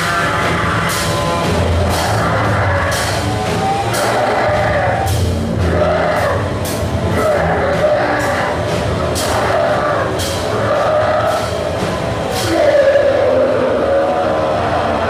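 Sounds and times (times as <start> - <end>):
distorted noise wash: 0.0 - 15.0
harsh noisy hits: 0.0 - 15.0.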